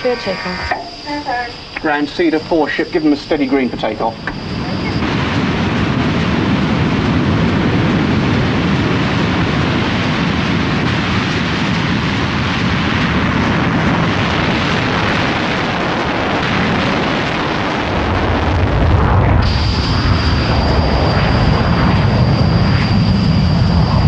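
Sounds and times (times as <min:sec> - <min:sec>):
jet engines roaring on takeoff: 0:00.0 - 0:24.0.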